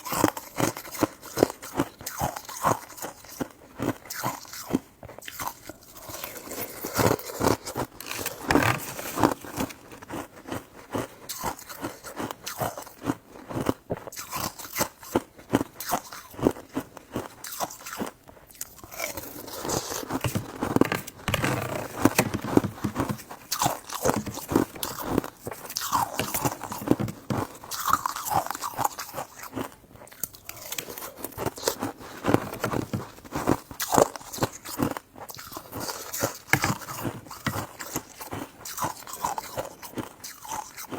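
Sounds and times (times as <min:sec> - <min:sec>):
person biting and chewing: 0:00.0 - 0:40.9.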